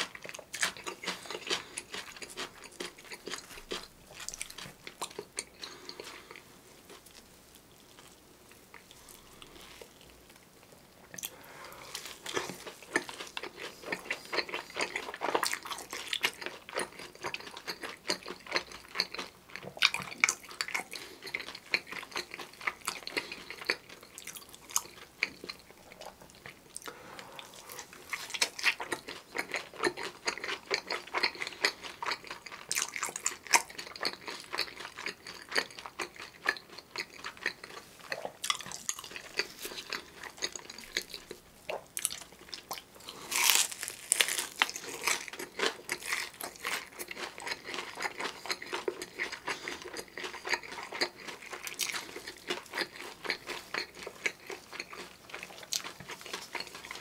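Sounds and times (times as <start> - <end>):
chewing and crunching fried food: 0.0 - 57.0.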